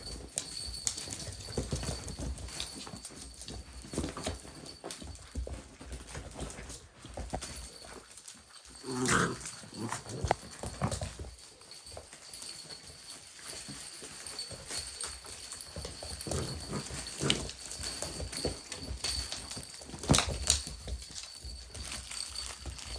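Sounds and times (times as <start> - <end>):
puppies moving about: 0.0 - 22.9.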